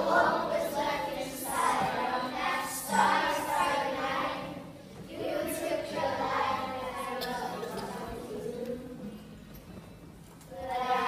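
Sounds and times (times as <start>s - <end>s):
children singing: 0.0s - 9.1s, 10.5s - 11.0s.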